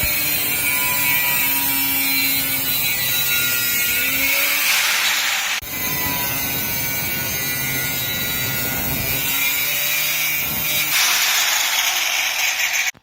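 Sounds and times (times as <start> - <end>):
angle grinder on metal: 0.0 - 13.0.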